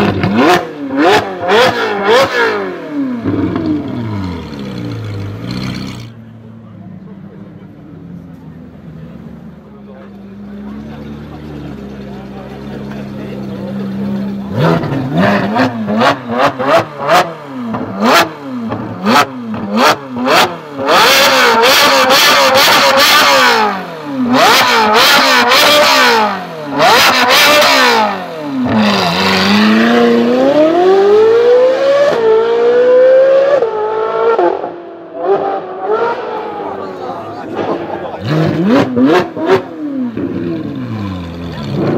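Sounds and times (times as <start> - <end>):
car accelerating away: 0.0 - 6.4, 8.1 - 41.9
sports car engine revving: 0.0 - 41.9.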